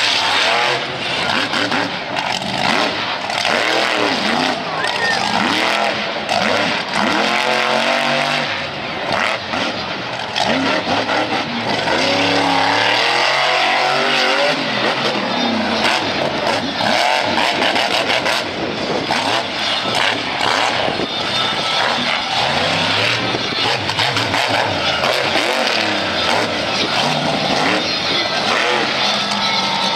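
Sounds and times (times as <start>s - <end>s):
truck engine revving hard: 0.0s - 29.9s.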